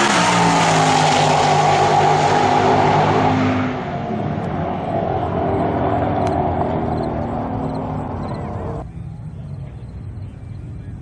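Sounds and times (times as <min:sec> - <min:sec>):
engines at full throttle: 0:00.0 - 0:11.0.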